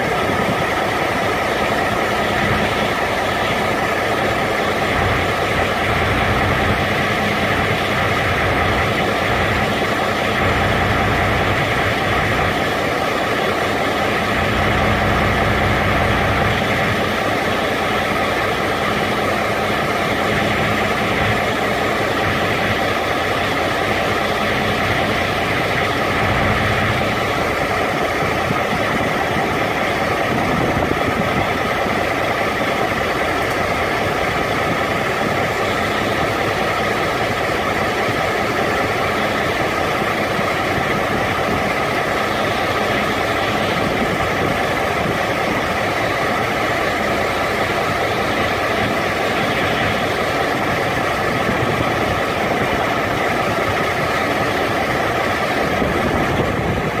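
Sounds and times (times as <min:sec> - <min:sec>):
refrigeration unit droning: 0:00.0 - 0:57.0.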